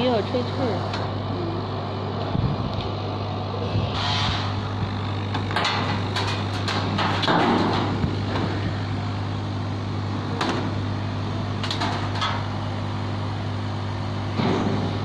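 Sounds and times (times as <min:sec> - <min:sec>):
laser cutter humming: 0:00.0 - 0:15.0.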